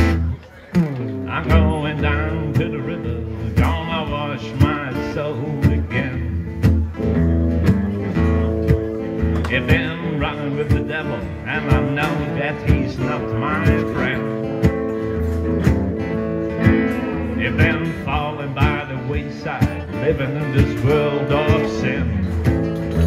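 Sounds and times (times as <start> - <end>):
acoustic guitar strumming: 0.0 - 23.0
electric guitar lead lines: 0.0 - 23.0.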